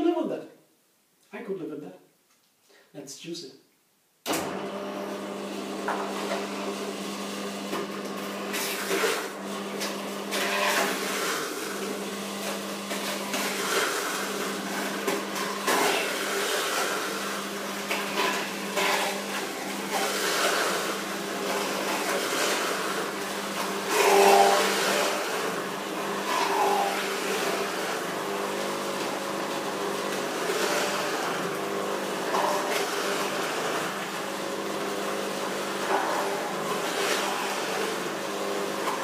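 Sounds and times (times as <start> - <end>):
electric juicer grinding fruit: 4.3 - 39.0.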